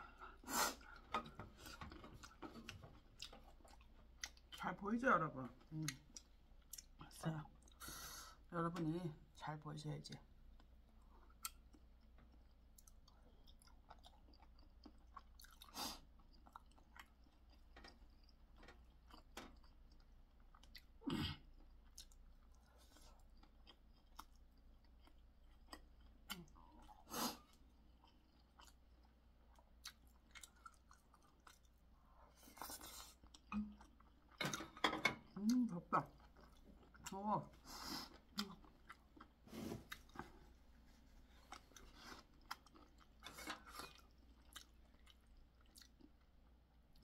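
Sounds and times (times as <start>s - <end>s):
close-up chewing: 0.1s - 4.6s, 10.5s - 34.4s, 35.3s - 47.0s.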